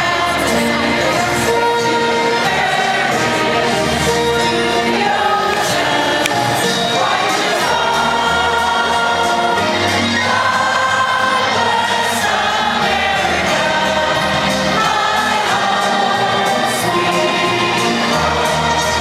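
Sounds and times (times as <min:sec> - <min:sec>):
crowd singing along: 0:00.0 - 0:19.0
symphony orchestra playing: 0:00.0 - 0:19.0.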